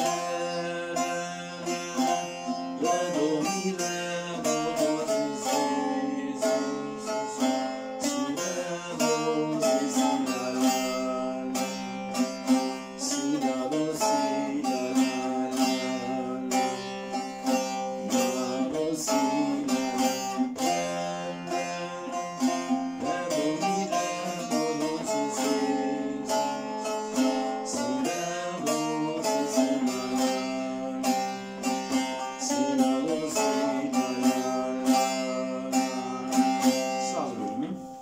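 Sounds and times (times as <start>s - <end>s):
plucked lute folk melody: 0.0s - 38.0s.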